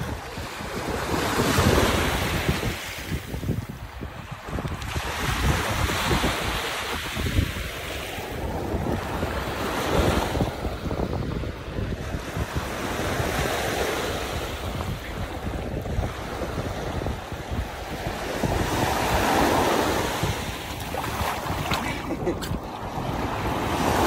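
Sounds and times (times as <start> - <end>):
small waves breaking on beach: 0.0 - 24.0
wind buffeting microphone: 0.0 - 24.0.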